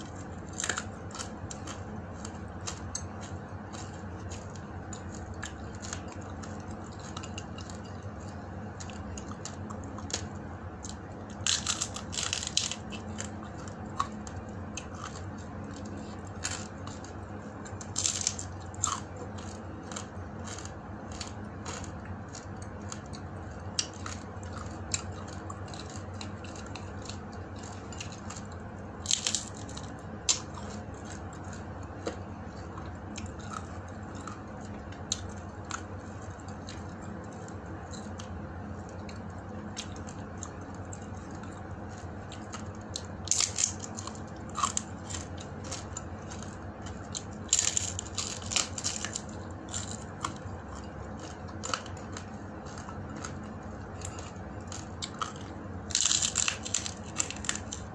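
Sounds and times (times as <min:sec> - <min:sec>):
crunching of crispy fish: 0:00.0 - 0:57.9
steady low hum: 0:00.0 - 0:57.9.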